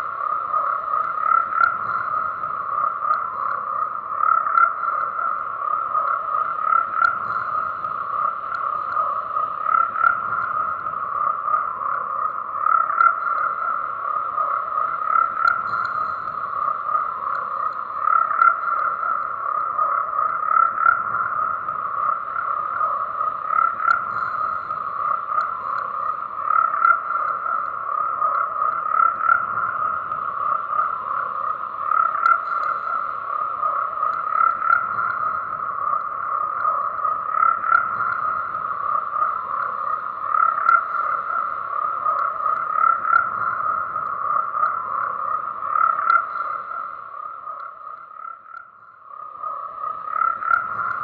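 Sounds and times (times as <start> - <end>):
frogs croaking: 0.0 - 51.0.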